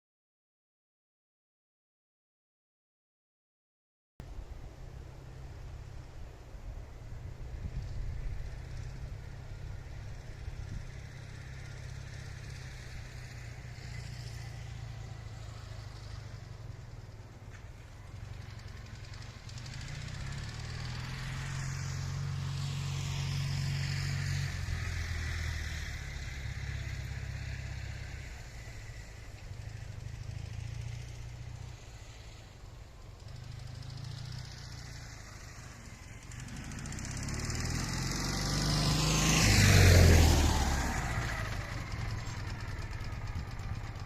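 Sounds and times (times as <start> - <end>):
motorcycle engine running: 7.4 - 39.4, 40.1 - 44.0.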